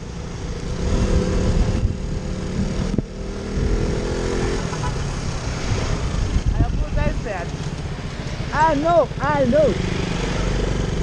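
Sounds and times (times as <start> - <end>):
motorcycle engine running: 0.0 - 11.0
wind and road rumble: 0.0 - 11.0.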